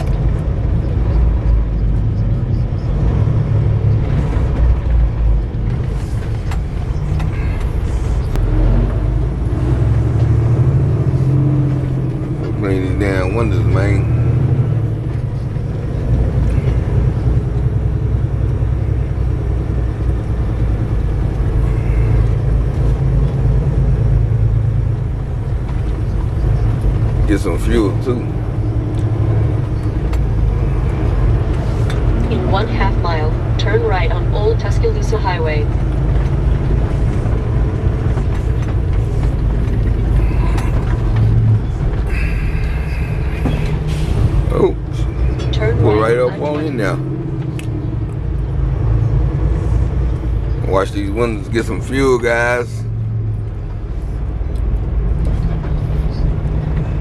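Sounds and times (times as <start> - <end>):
diesel engine rumble: 0.0 - 57.0
road noise: 0.0 - 57.0.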